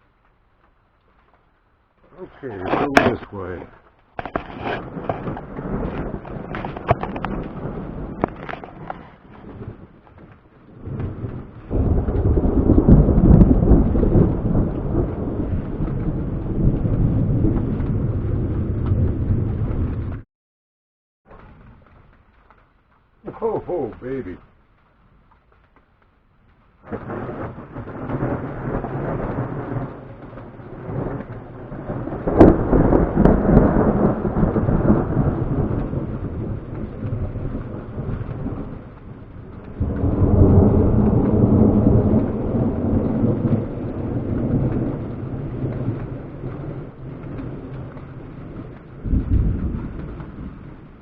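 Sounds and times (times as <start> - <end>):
thunder rumbling and cracking: 1.2 - 20.2, 21.3 - 51.0.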